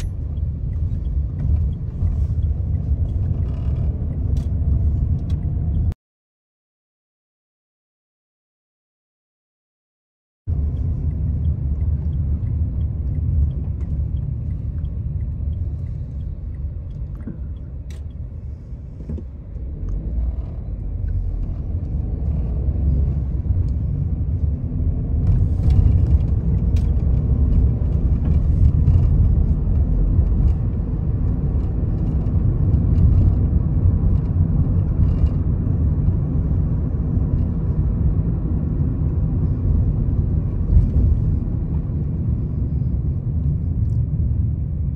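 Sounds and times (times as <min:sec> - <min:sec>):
road and engine rumble in car: 0:00.0 - 0:06.0, 0:10.5 - 0:44.9.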